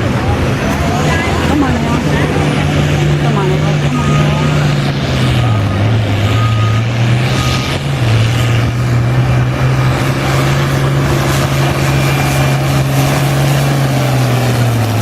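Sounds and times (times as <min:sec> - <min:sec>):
tractor engine droning under load: 0:00.0 - 0:15.0.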